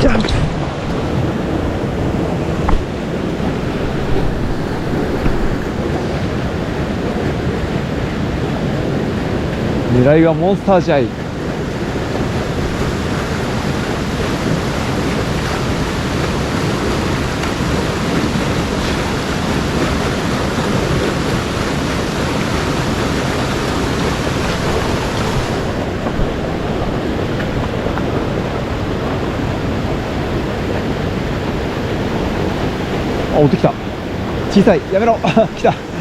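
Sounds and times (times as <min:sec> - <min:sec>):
stream water rushing: 0:00.0 - 0:36.0.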